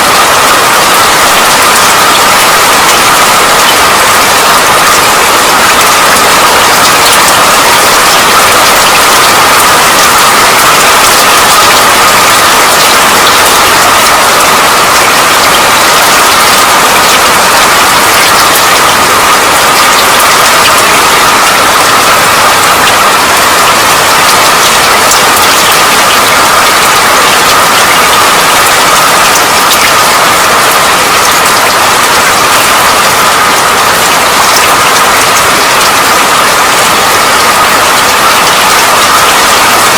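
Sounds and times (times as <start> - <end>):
patter of raindrops: 0.0 - 39.9
steady rain hiss: 0.0 - 39.9.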